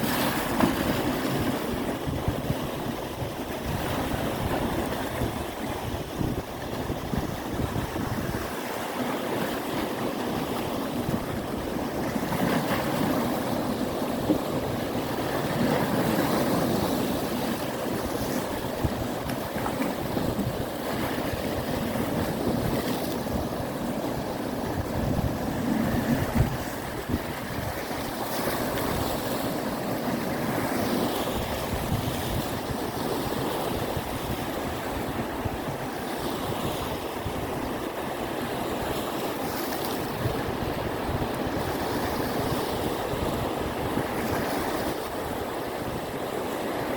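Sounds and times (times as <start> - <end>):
surf rushing: 0.0 - 46.9
wind buffeting microphone: 0.0 - 46.9.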